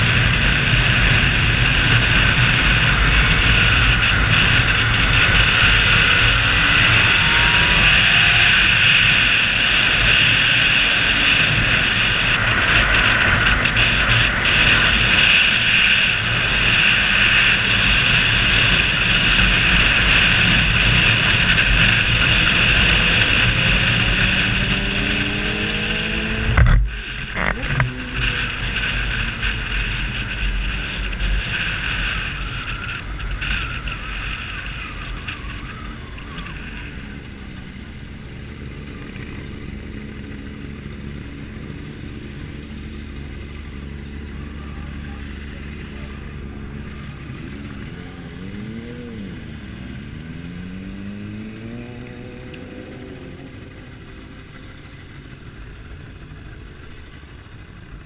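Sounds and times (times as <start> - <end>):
motorcycle engine running: 0.0 - 58.0
wind buffeting helmet camera: 0.0 - 58.0.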